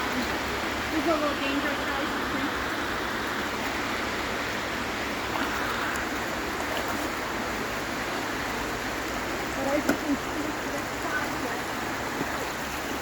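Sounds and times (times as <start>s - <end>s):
water rushing and falling: 0.0s - 13.0s.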